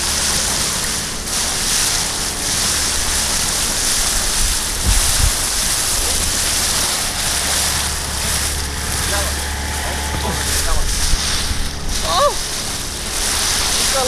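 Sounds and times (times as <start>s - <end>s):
outboard motor running: 0.0s - 14.0s
water splashing along boat hull: 0.0s - 14.0s
wind on microphone: 0.0s - 14.0s
low bumps: 2.6s - 14.0s.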